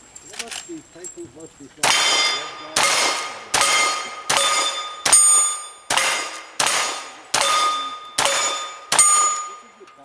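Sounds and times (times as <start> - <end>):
gunshots: 1.8 - 9.9
steel target ringing: 1.8 - 10.0.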